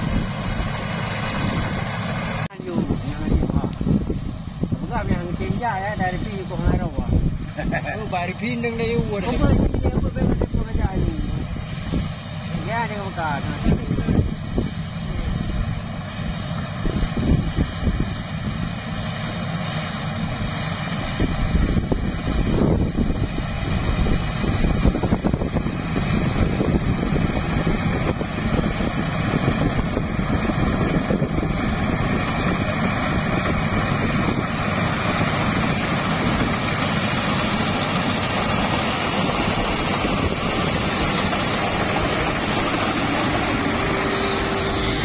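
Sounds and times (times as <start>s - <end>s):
wind buffeting microphone: 0.0s - 19.1s, 20.2s - 45.0s
combine harvester running: 0.0s - 45.0s.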